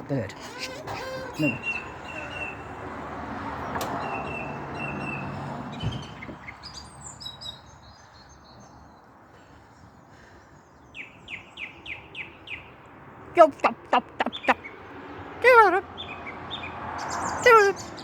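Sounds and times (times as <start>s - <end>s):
songbirds singing and chirping: 0.0s - 18.0s.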